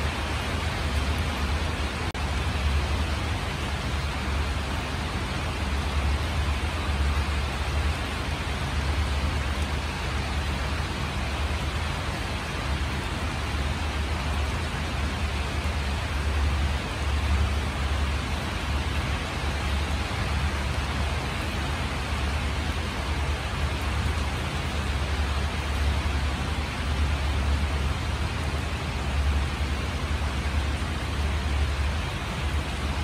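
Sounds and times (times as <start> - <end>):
constant low rumble: 0.0 - 33.0
steady rain hiss: 0.0 - 33.0.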